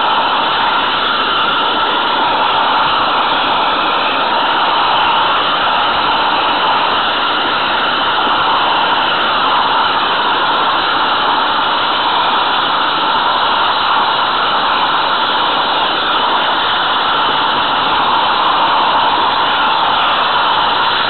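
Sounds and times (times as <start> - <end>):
model train rushing hiss: 0.0 - 21.0.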